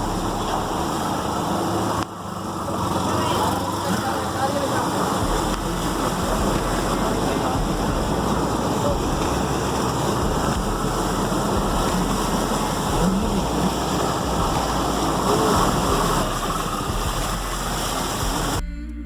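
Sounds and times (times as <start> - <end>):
heavy rain: 0.0 - 18.6
running water: 0.0 - 18.6.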